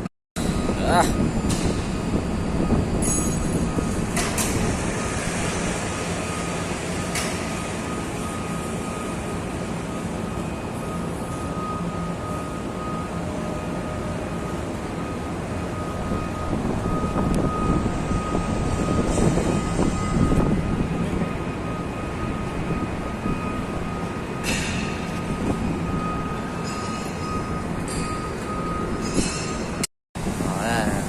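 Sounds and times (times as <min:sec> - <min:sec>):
heavy machinery engine running: 0:00.0 - 0:31.0.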